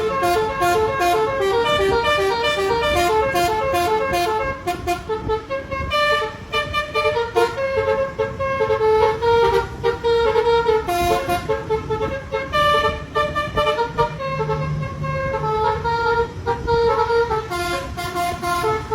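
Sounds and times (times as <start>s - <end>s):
bus rumble: 0.0s - 18.9s
musical air horn melody: 0.0s - 18.9s.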